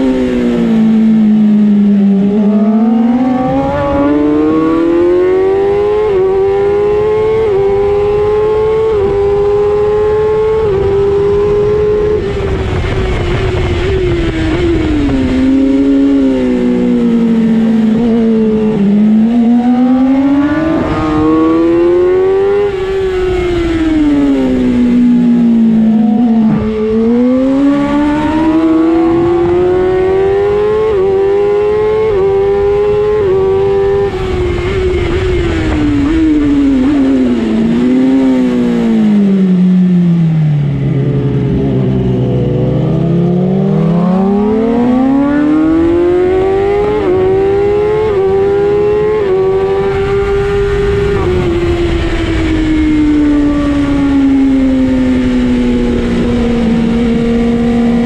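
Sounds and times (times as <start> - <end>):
racing motorcycle engine: 0.0 - 58.0
wind rush: 0.0 - 58.0.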